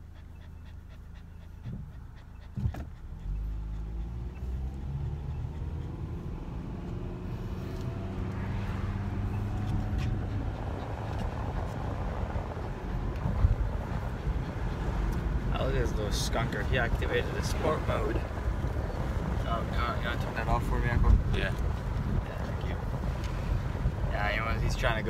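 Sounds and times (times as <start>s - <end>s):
dog panting: 0.0s - 25.0s
road and wind noise: 0.0s - 25.0s
car engine accelerating: 1.6s - 25.0s.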